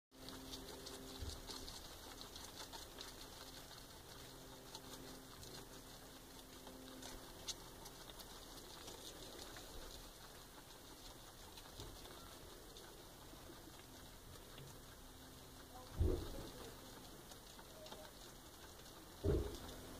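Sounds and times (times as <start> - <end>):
guinea pig chewing leaves: 0.1 - 19.9
rustling of hay and fur: 0.2 - 19.9.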